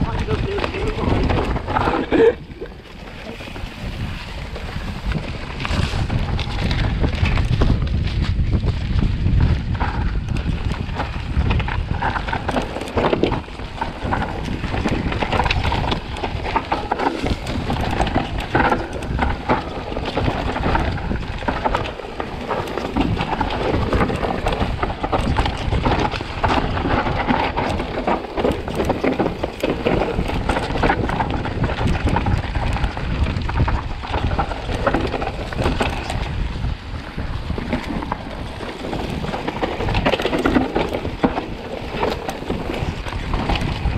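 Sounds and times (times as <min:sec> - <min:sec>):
bike knocking and rattling: 0:00.0 - 0:43.9
bike tyres on dirt trail: 0:00.0 - 0:43.9
wind buffeting microphone: 0:00.0 - 0:43.9.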